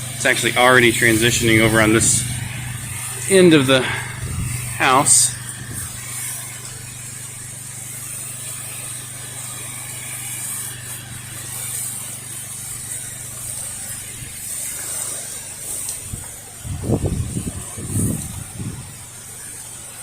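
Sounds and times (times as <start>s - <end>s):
motor humming: 0.0s - 20.0s
spray nozzle hissing: 0.0s - 20.0s.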